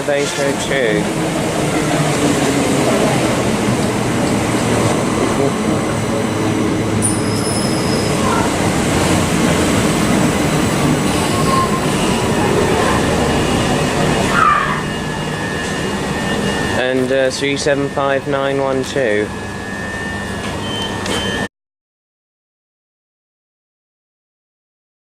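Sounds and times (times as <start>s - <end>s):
train wheels rumbling on rails: 0.0s - 21.4s
high wheel squeal: 0.0s - 21.5s.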